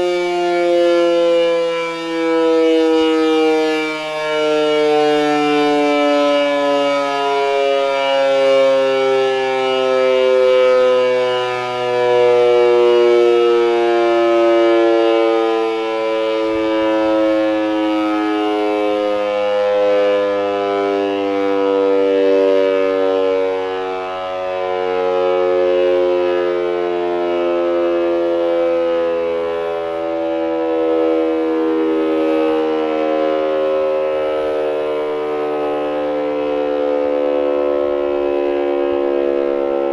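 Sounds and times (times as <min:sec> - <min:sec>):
air-raid siren wailing: 0:00.0 - 0:39.9.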